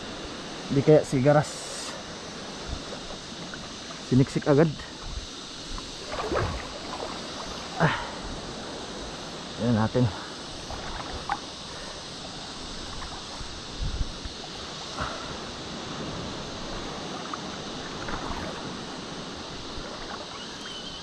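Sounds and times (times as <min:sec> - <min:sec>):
seawater lapping and sloshing: 0:01.9 - 0:09.5, 0:10.2 - 0:21.0
wind on microphone: 0:02.4 - 0:04.1, 0:04.8 - 0:09.5, 0:10.4 - 0:21.0.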